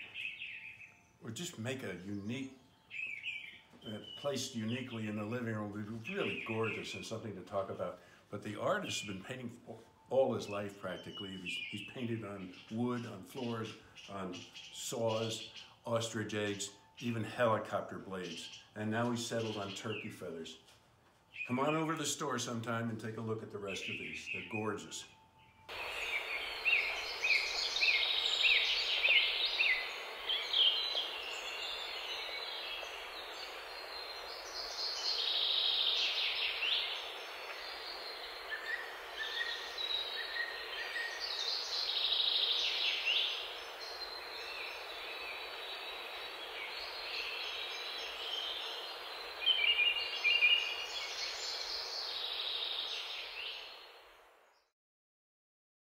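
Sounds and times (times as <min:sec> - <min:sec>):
background hiss: 0:00.0 - 0:54.6
songbirds chirping and trilling: 0:00.0 - 0:54.7.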